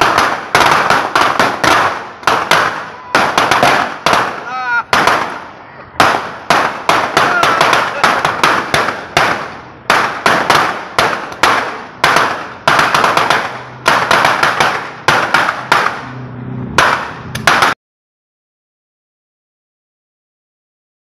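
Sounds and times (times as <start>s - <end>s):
firecrackers banging: 0.0s - 17.8s.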